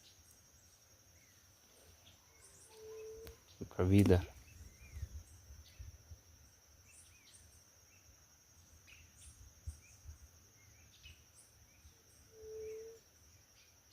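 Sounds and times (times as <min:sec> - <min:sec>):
high-pitched insect trill: 0:00.0 - 0:13.9.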